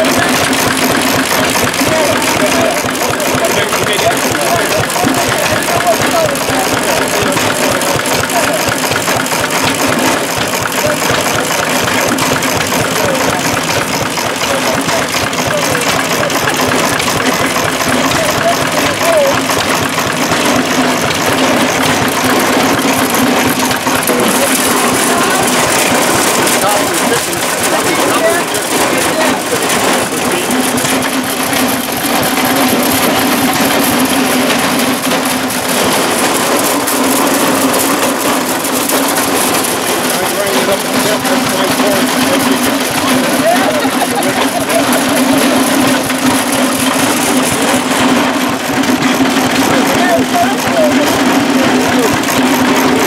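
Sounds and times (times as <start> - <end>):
corn grinder clattering: 0.0 - 53.0
hit-and-miss engine running: 0.0 - 53.0.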